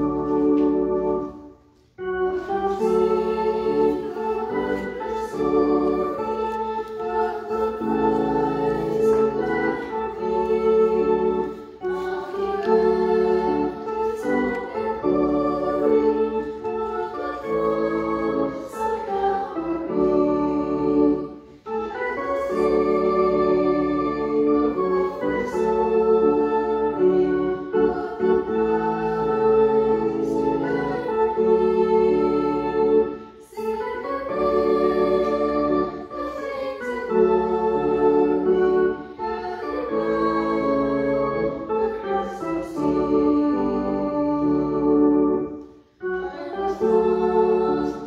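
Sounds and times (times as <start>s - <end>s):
organ chords: 0.0s - 48.0s.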